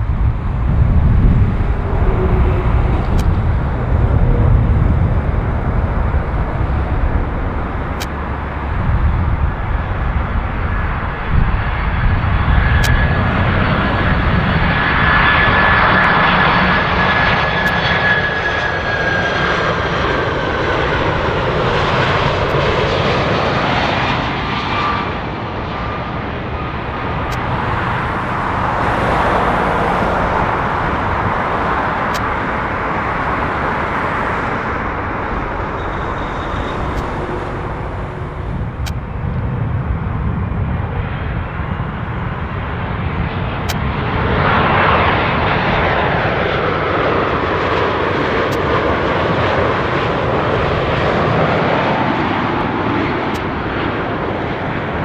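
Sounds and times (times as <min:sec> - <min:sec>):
jet airliner engines rumbling: 0:00.0 - 0:55.0
jet fan whine: 0:00.0 - 0:55.0.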